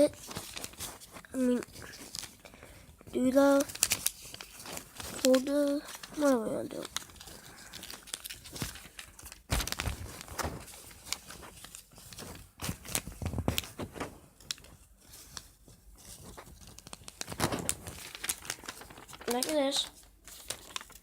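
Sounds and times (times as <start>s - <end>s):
paper crinkling and rustling: 0.0s - 21.0s.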